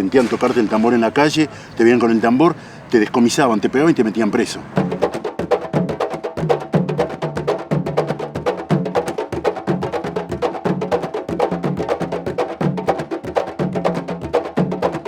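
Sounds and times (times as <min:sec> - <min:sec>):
low booming drum notes: 0:00.0 - 0:12.9.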